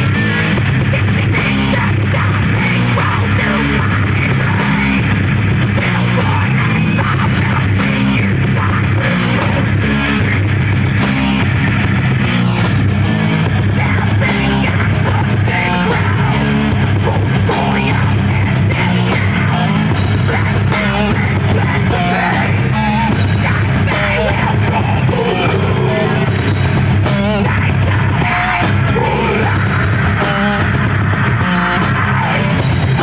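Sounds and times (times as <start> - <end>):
heavy metal band playing live: 0.0 - 33.0.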